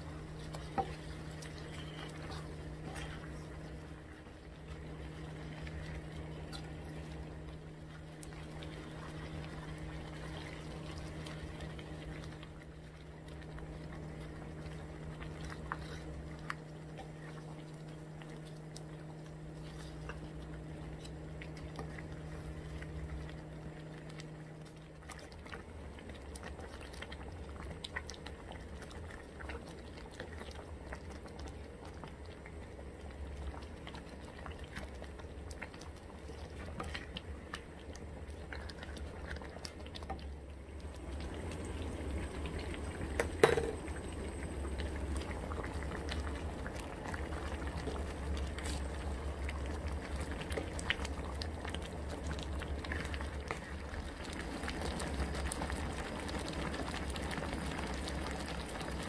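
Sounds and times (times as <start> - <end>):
low steady hum: 0.0 - 59.0
pot of liquid boiling: 0.0 - 59.0.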